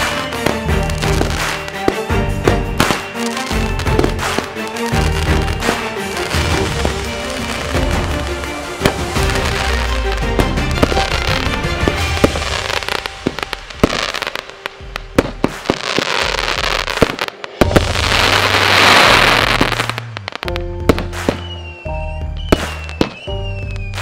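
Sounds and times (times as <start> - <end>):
loud firework hiss: 0.0 - 20.6
fireworks popping and banging: 0.0 - 21.7, 22.3 - 24.0
background music: 0.0 - 24.0.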